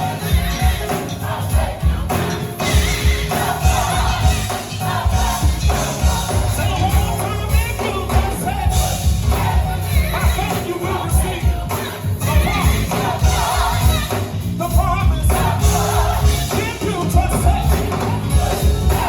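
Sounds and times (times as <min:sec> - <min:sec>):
drums and bass beat: 0:00.0 - 0:19.0
gospel choir singing: 0:00.0 - 0:19.0.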